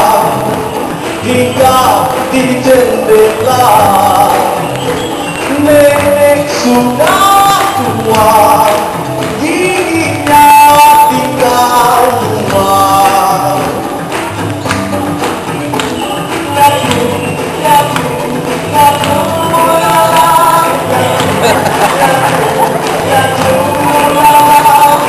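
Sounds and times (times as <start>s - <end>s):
band with percussion beat: 0.0s - 25.0s
voices singing: 0.0s - 25.0s.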